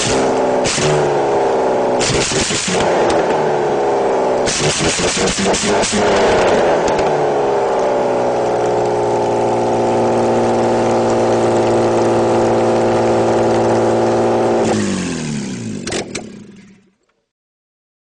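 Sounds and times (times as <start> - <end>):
engine running and winding down: 0.0 - 17.0.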